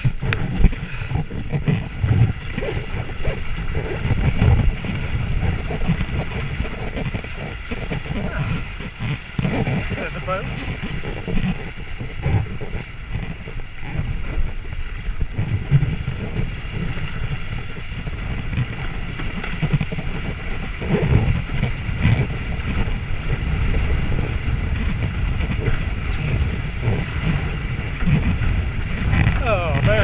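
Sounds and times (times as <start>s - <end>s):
water rushing past board: 0.0s - 30.0s
wind buffeting microphone: 0.0s - 30.0s.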